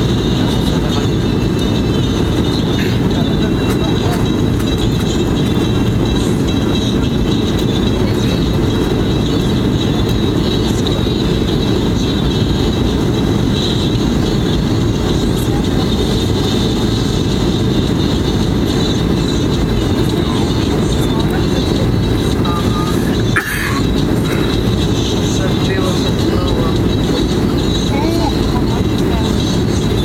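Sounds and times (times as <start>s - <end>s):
jet engine and airflow rumble: 0.0s - 30.0s
thin high whine: 0.0s - 30.0s.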